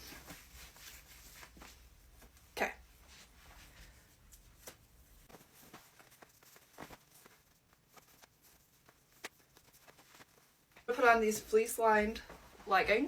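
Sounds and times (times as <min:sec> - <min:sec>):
clothing rustling: 0:00.0 - 0:13.0.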